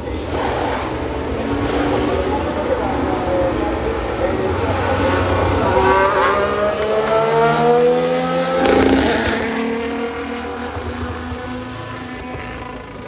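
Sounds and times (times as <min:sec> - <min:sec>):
race car engine passing at high revs: 0:00.0 - 0:13.0.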